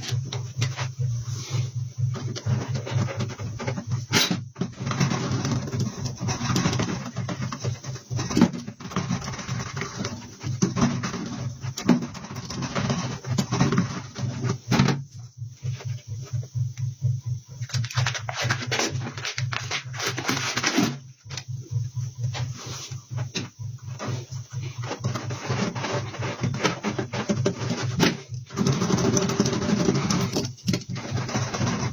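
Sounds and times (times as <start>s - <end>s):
scraping inside a tire: 0.0s - 31.9s
steady low hum: 0.0s - 31.9s.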